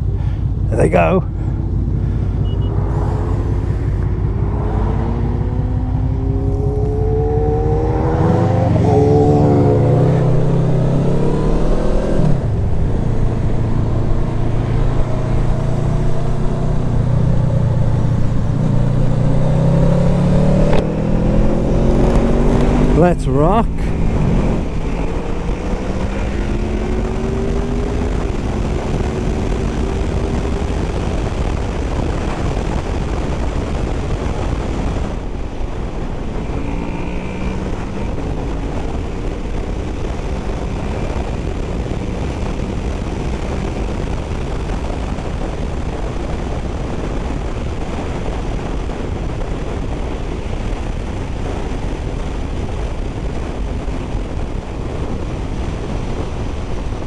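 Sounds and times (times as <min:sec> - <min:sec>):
motorcycle engine accelerating: 0:01.3 - 0:57.0
wind noise on microphone: 0:01.5 - 0:23.0, 0:23.8 - 0:57.0.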